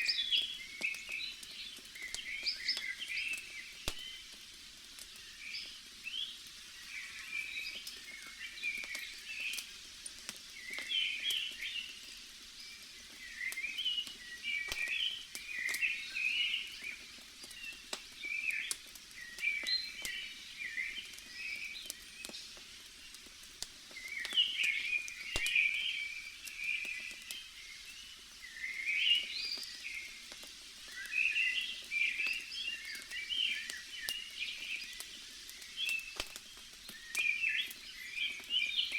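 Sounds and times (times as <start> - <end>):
campfire pops and crackles: 0.0 - 38.9
faint steady hiss: 0.0 - 38.9
forest birds chirping: 0.0 - 38.9.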